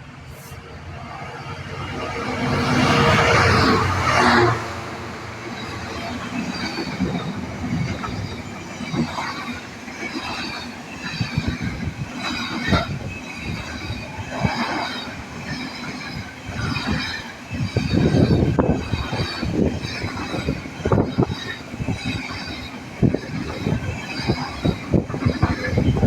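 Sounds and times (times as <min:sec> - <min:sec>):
train rumble: 0:00.0 - 0:26.0
train wheels clattering: 0:01.9 - 0:26.0.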